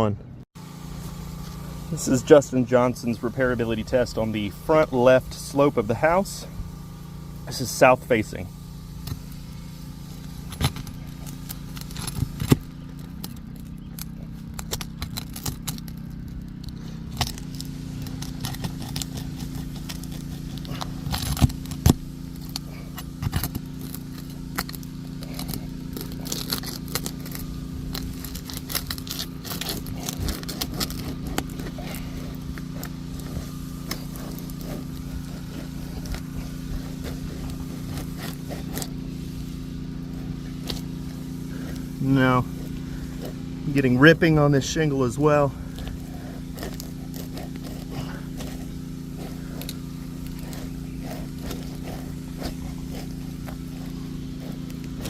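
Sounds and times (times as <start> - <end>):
low engine hum: 0.0 - 55.0
tool scraping under shingles: 0.6 - 55.0
roof shingles cracking and tearing: 8.9 - 55.0.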